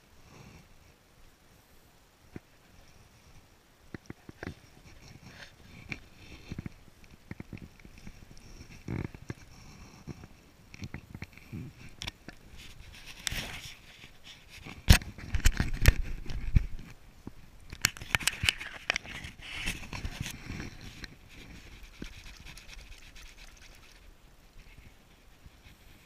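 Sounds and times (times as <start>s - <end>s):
handling noise on camera: 2.3s - 26.0s.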